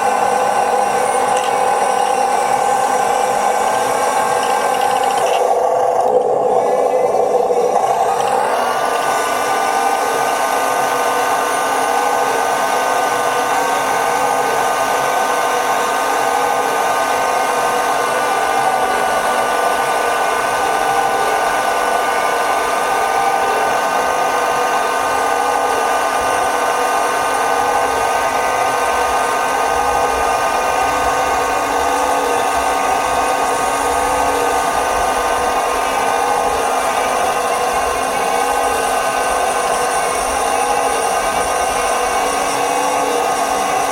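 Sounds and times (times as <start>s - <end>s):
small electric motors whining: 0.0s - 43.9s.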